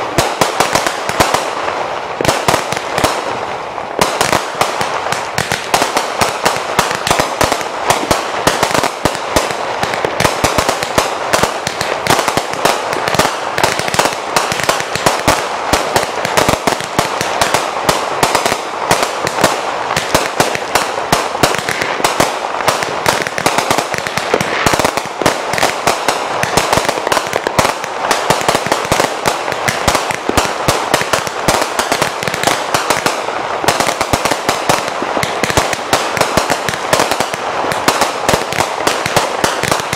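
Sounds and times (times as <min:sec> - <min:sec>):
fireworks popping and crackling: 0:00.0 - 0:39.9.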